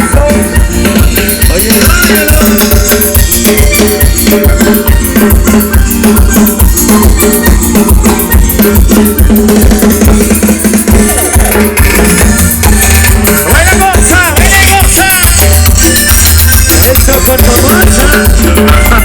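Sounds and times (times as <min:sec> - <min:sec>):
drum kit dance beat: 0:00.0 - 0:19.0
keyboard: 0:00.0 - 0:19.0.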